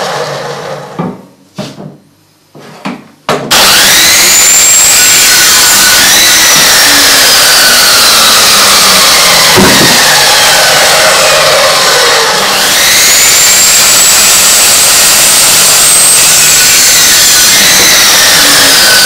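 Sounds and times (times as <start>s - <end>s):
power saw cutting wood: 0.0s - 1.0s, 3.5s - 19.0s.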